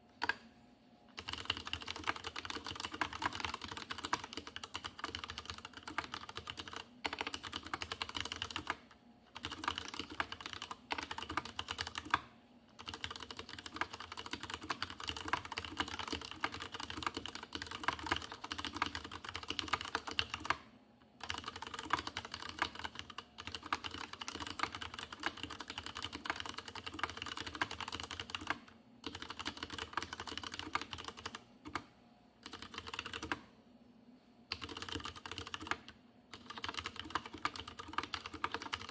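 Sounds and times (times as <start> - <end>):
mechanical keyboard typing: 1.2 - 20.6, 21.2 - 33.5, 34.5 - 38.9.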